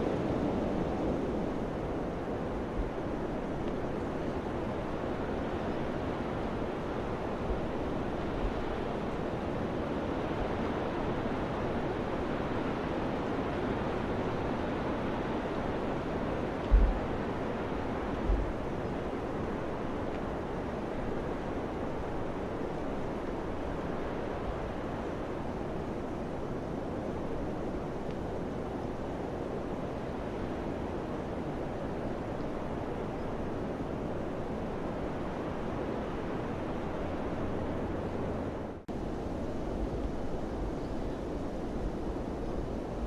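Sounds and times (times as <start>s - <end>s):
wind blowing steadily: 0.0s - 43.0s.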